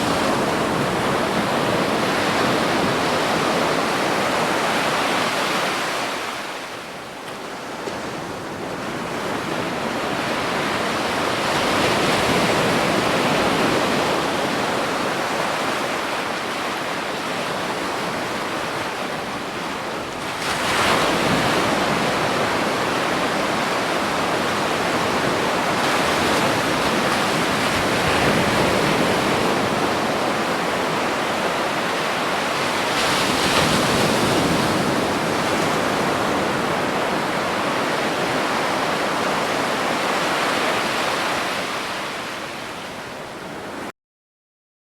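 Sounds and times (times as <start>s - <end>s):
ocean waves breaking on beach: 0.0s - 43.9s.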